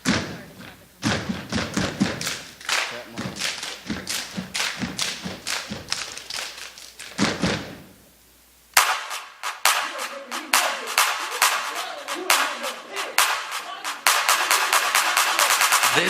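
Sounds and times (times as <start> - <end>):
stomping and clapping rhythm: 0.0 - 16.0.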